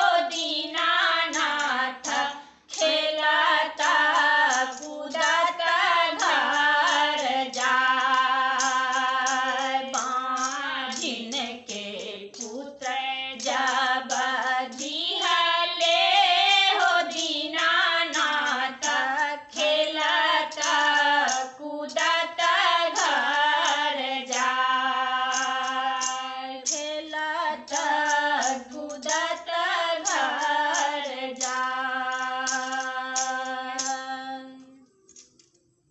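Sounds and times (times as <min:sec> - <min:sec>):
women singing together: 0:00.0 - 0:35.2.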